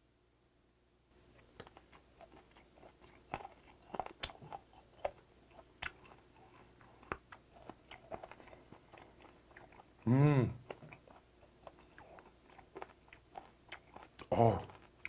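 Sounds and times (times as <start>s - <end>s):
chewing with crunches: 1.2s - 15.0s.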